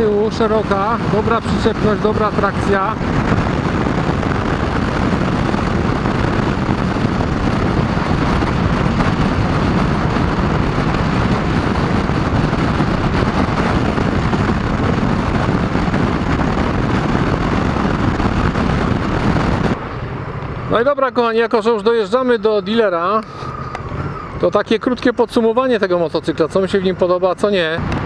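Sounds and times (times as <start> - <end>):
motorcycle engine running: 0.0 - 28.0
wind and road noise rush: 0.0 - 28.0.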